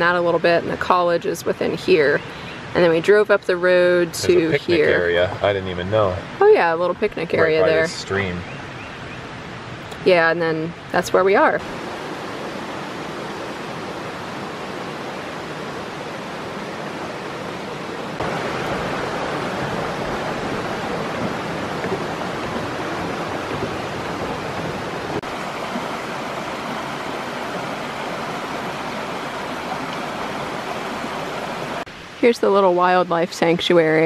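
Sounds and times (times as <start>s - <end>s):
creek rushing over rocks: 0.0s - 8.4s, 11.2s - 34.0s.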